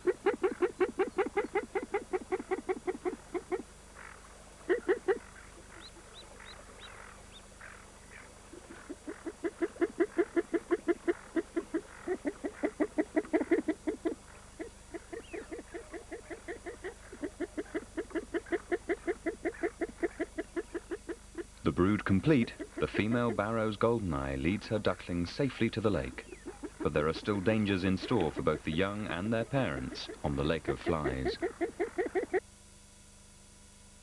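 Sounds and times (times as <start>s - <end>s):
duck calling: 0.0s - 24.6s, 26.1s - 32.4s
ducklings peeping: 0.0s - 32.4s.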